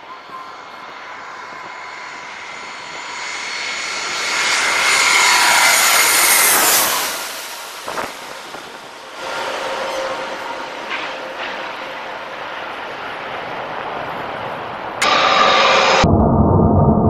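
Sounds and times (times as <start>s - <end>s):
airliner passing overhead: 0.0s - 16.2s.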